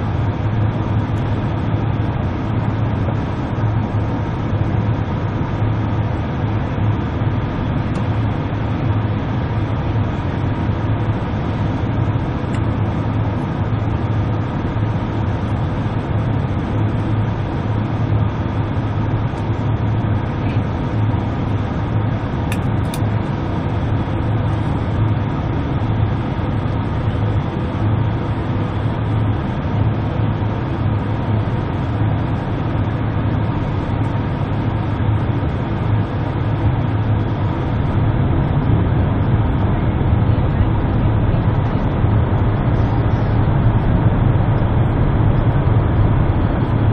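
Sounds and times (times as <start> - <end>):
jet engine cabin rumble: 0.0 - 46.9.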